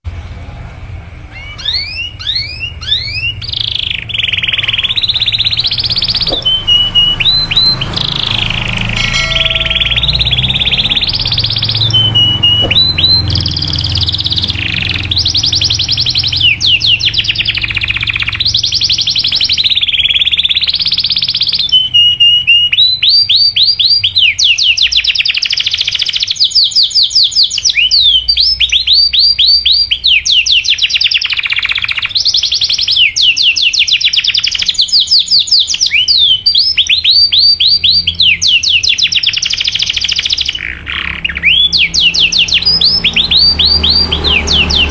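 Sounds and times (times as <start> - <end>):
canary singing trills: 1.3 - 44.9.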